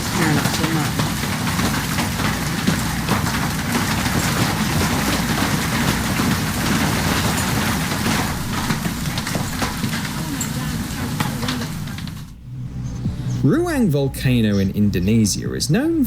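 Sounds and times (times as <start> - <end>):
hail pelting down: 0.0 - 16.0.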